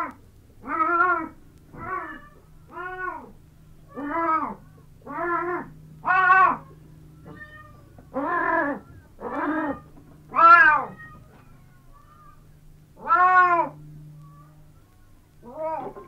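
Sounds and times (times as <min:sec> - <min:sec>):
cat meowing: 0:00.0 - 0:03.3, 0:03.9 - 0:12.4, 0:13.0 - 0:14.6, 0:15.4 - 0:16.0.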